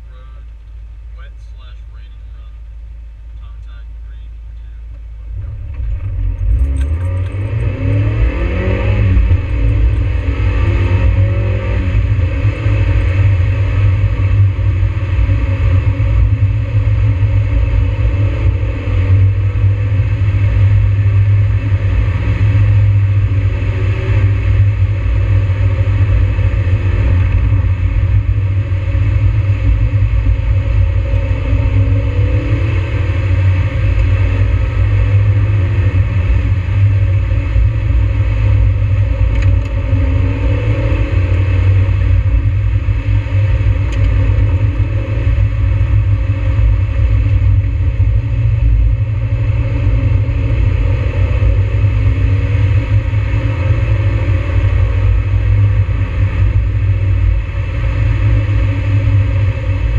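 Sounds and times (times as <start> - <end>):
car engine revving through gears: 5.3 - 59.9.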